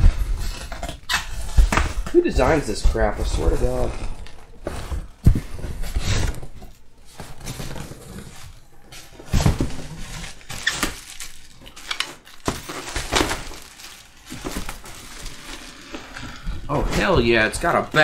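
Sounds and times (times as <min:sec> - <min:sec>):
plastic wrap rustling and crinkling: 0:00.0 - 0:18.0.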